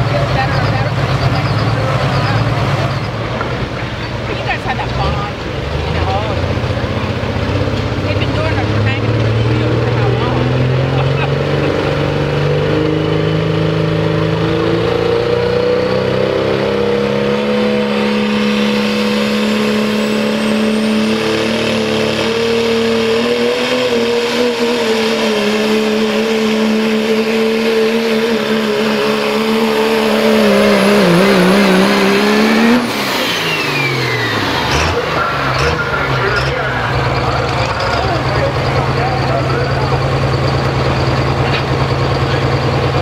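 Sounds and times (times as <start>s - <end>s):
diesel engine under full load: 0.0s - 43.0s.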